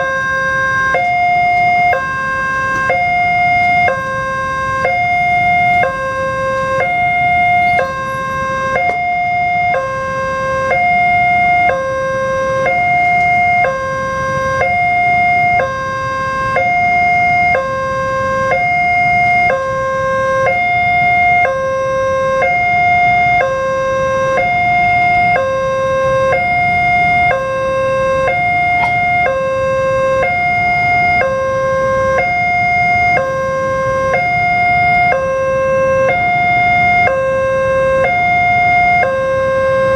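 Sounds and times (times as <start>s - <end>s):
low rumble of road traffic: 0.0s - 39.9s
two-tone electronic crossing alarm: 0.0s - 39.9s.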